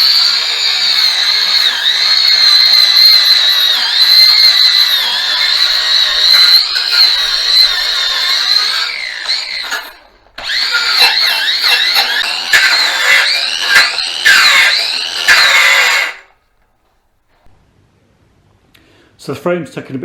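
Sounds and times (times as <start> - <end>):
wire wheel brush on metal: 0.0 - 16.2.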